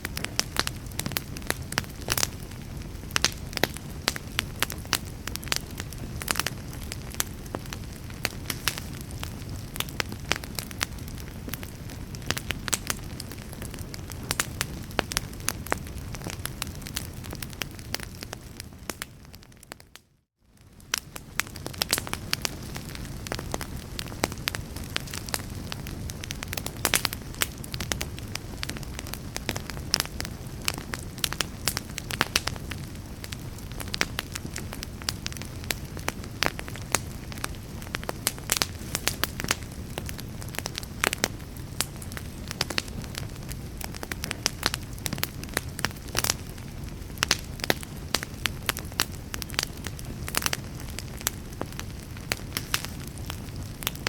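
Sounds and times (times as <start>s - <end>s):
fireplace fire crackling: 0.0s - 54.0s
low fire rumble: 0.0s - 54.0s.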